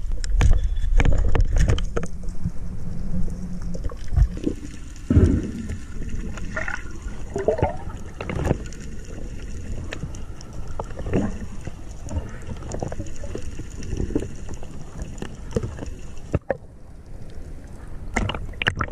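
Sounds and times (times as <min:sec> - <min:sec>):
underwater rushing water: 0:00.0 - 0:18.9.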